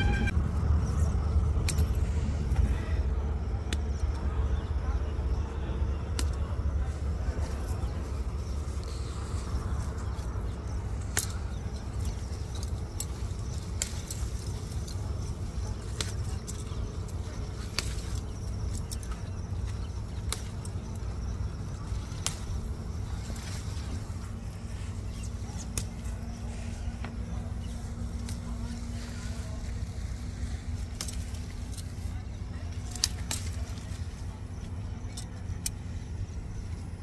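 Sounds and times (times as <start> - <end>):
steady low rumble: 0.0 - 37.0
leaves rustling: 6.1 - 37.0.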